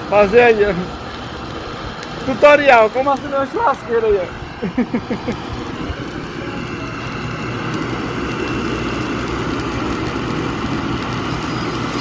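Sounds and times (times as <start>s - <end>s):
electric blower whining: 0.0s - 12.0s.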